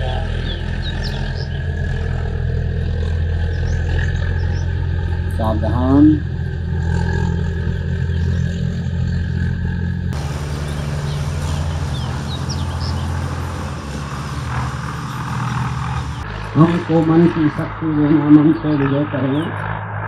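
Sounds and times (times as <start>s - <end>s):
low mechanical hum: 0.0s - 17.8s.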